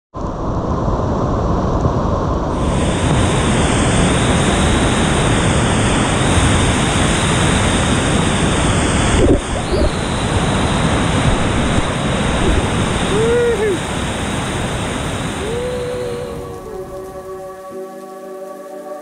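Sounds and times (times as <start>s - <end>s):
rushing whitewater river: 2.6s - 19.0s.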